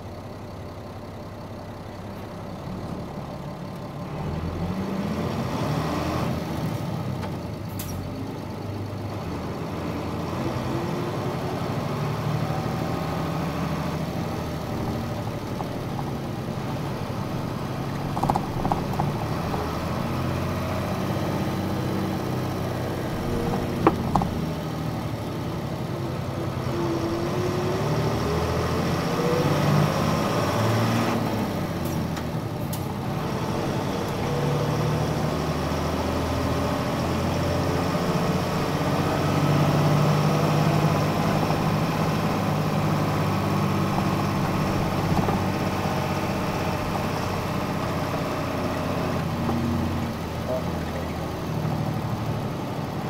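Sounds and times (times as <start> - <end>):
bus diesel engine revving: 1.9 - 53.0.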